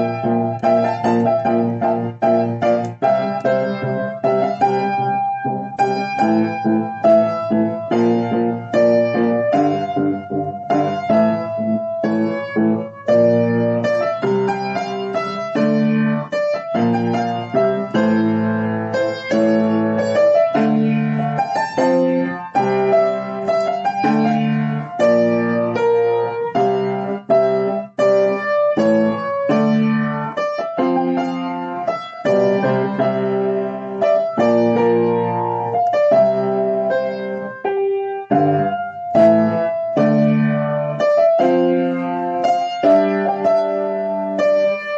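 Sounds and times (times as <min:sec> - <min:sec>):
piano chords: 0:00.0 - 0:44.9.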